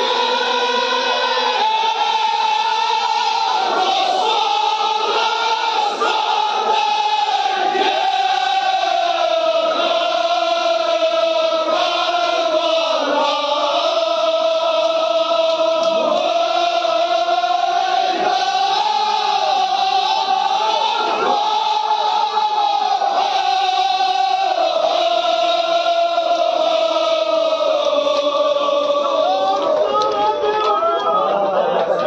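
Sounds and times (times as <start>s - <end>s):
crowd of men chanting: 0.0s - 32.0s.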